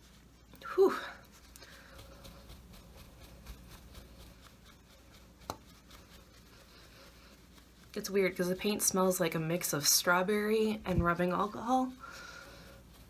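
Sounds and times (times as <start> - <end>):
hand fanning rustling: 0.0 - 13.0.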